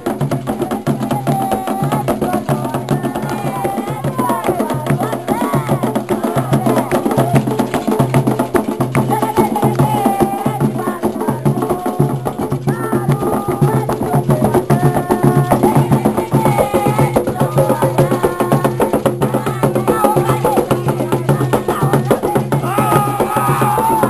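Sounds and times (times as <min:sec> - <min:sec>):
clacking percussion: 0:00.0 - 0:24.0
group singing: 0:00.0 - 0:24.0
hand drums: 0:00.0 - 0:24.0.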